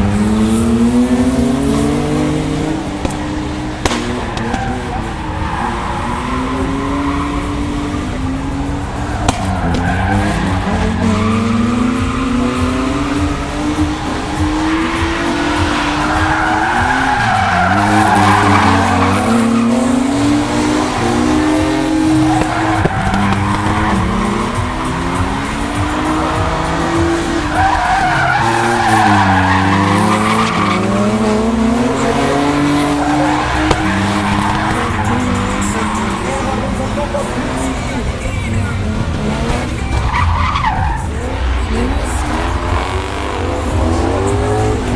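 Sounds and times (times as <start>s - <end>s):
car engine revving: 0.0s - 44.9s
tyres squealing: 0.0s - 44.9s.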